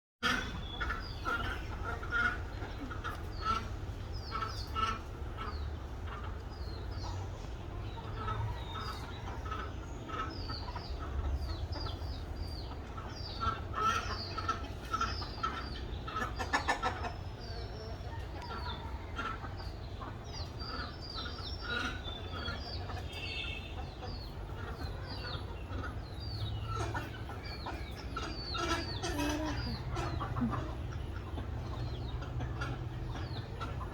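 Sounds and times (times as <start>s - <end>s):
birds clucking and chirping: 0.2s - 33.9s.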